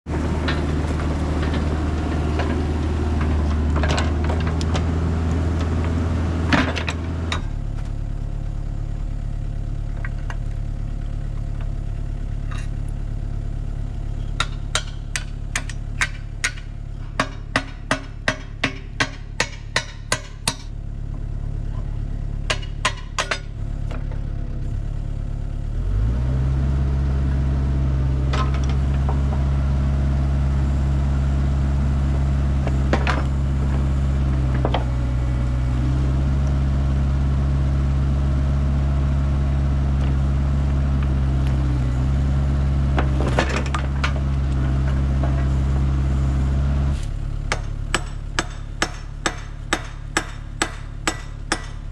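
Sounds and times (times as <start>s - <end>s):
diesel engine running: 0.1s - 51.9s.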